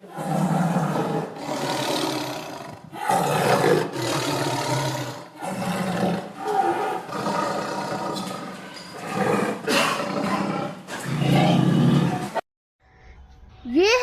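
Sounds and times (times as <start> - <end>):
leopard roaring: 0.0 - 12.4.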